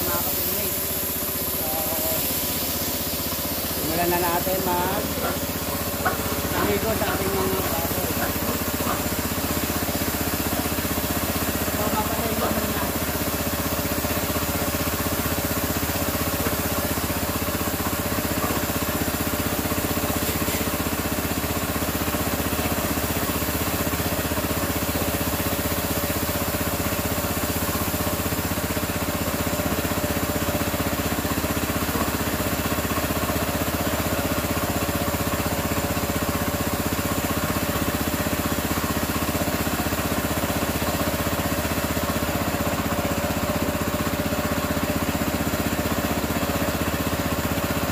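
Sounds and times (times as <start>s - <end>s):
high-pressure water spray hissing: 0.0s - 47.9s
pressure washer engine running: 0.0s - 47.9s.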